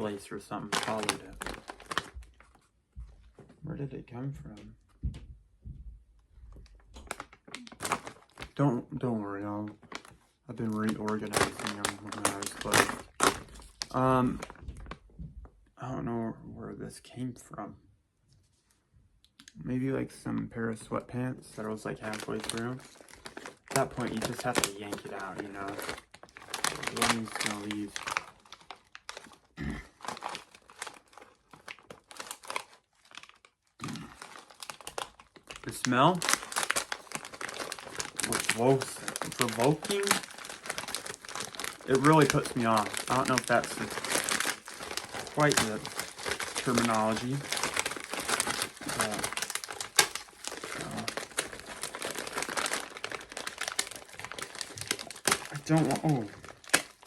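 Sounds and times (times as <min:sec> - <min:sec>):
plastic candy bag crinkling: 0:00.0 - 0:02.7, 0:06.4 - 0:15.2, 0:20.8 - 0:57.0.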